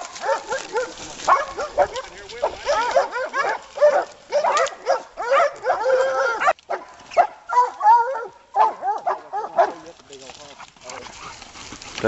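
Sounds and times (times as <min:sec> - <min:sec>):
dogs barking and baying: 0:00.0 - 0:12.0.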